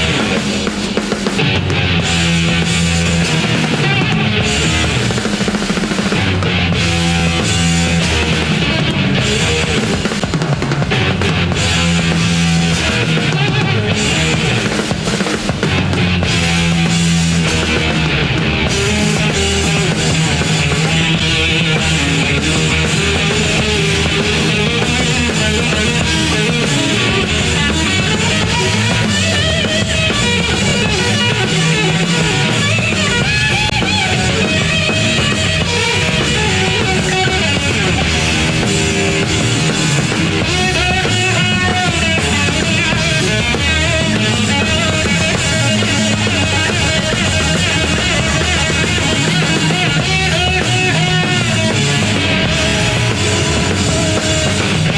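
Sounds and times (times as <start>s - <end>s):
loud rock music: 0.0s - 54.9s.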